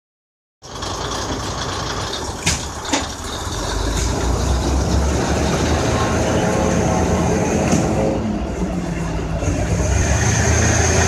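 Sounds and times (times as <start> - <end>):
diesel railcar engine rumbling: 0.6 - 11.0.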